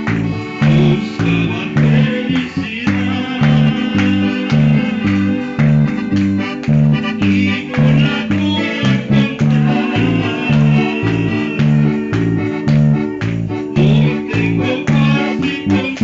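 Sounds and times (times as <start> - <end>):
guitar music over bass beat: 0.0 - 16.0.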